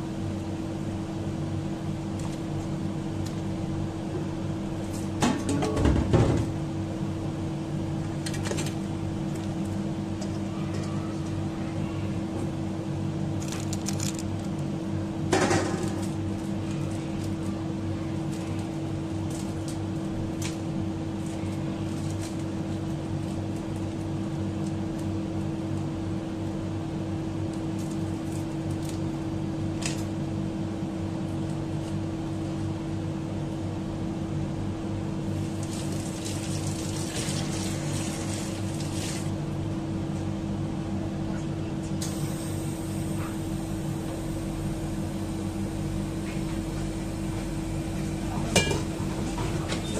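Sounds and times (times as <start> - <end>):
appliance hum: 0.0 - 49.9.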